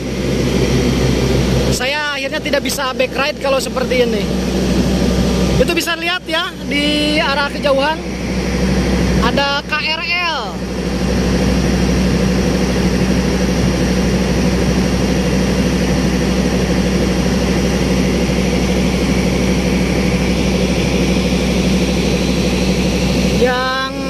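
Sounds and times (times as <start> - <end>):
locomotive engine idling: 0.0 - 24.0.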